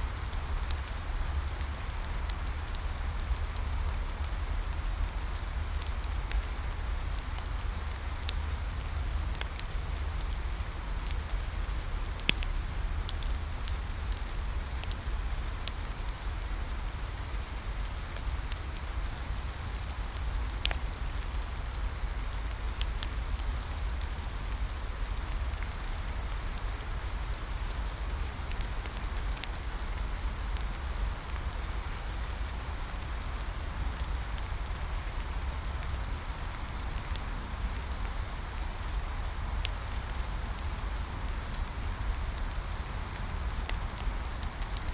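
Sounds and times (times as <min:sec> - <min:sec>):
wood fire crackling: 0:00.1 - 0:44.9.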